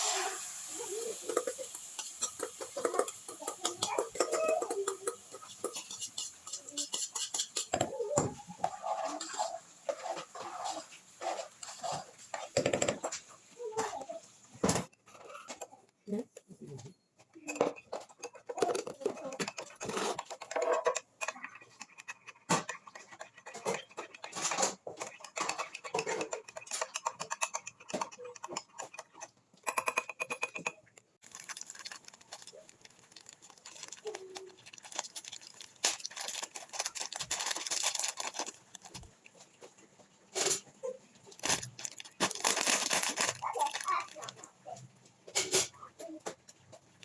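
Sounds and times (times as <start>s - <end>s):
utensils and dishes clattering: 0.0s - 14.0s, 16.7s - 47.0s.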